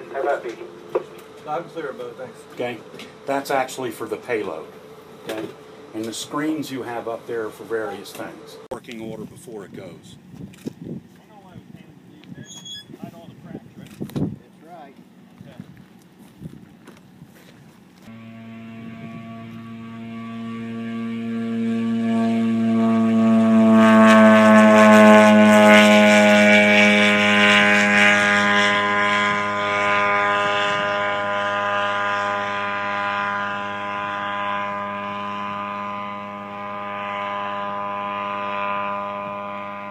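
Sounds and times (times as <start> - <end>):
aircraft engine and propeller droning: 0.0 - 12.8, 17.7 - 39.9.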